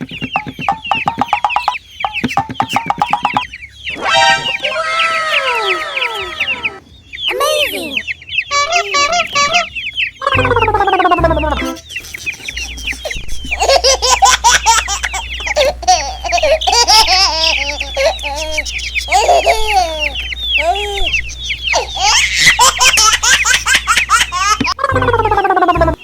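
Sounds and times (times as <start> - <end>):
baby chicks peeping: 0.0 - 26.0
wavering laugh-like calls: 0.0 - 26.0.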